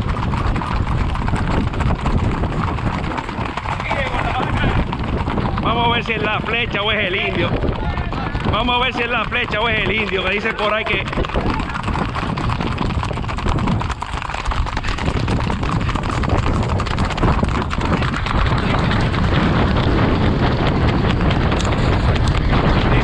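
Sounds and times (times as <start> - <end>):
horse hooves clattering: 0.0 - 23.0
low rumble: 0.0 - 23.0.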